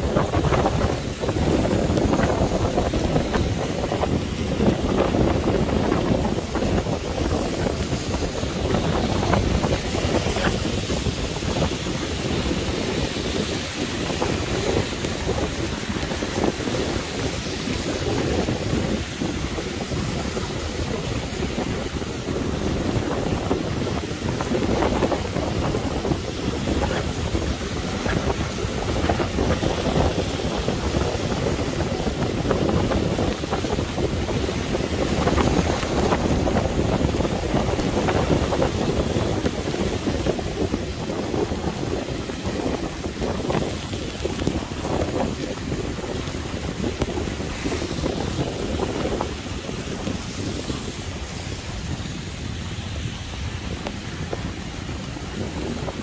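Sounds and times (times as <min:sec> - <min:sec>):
rain: 0:00.0 - 0:56.0
surf hissing: 0:00.0 - 0:56.0
wind buffeting microphone: 0:00.0 - 0:56.0.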